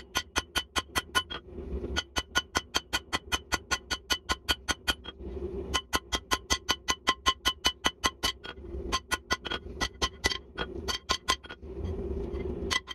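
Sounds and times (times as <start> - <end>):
hammer blows on hot steel: 0.0 - 12.9.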